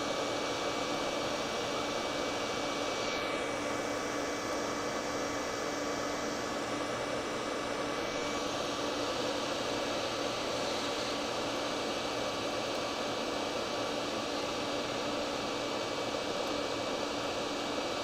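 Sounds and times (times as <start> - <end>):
heat gun hissing with whine: 0.0 - 18.0.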